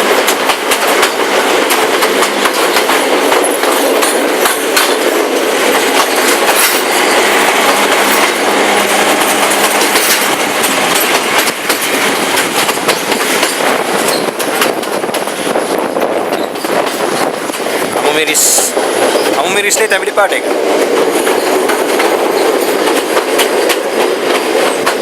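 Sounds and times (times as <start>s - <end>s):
train rushing noise: 0.0s - 25.0s
train wheels clacking on rails: 0.0s - 25.0s.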